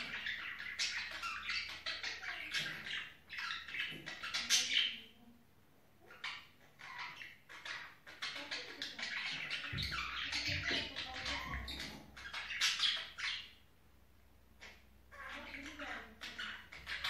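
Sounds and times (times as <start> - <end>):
budgerigars chattering: 0.0 - 5.1, 6.0 - 13.6, 14.5 - 17.0.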